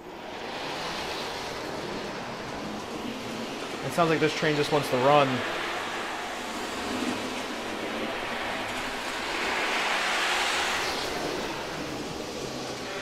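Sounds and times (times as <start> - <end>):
model train rolling whir: 0.0 - 13.0.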